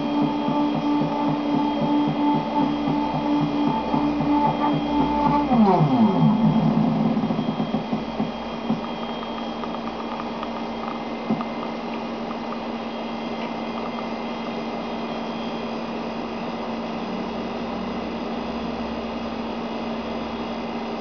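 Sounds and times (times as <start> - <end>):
stepper motor whine: 0.0 - 21.0.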